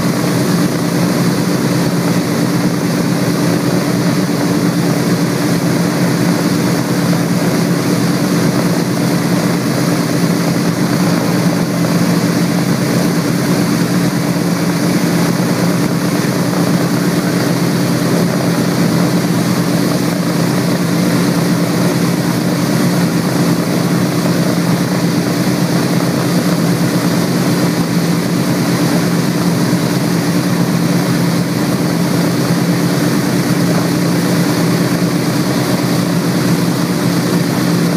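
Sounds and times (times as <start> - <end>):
aircraft radial engines droning: 0.0 - 37.9.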